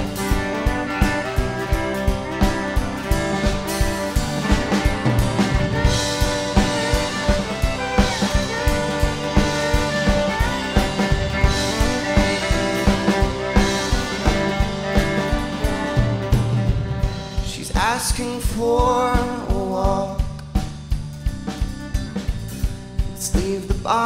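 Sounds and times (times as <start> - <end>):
sustained guitar chords: 0.0 - 18.3, 20.2 - 23.2
drum kit beat: 0.0 - 24.0.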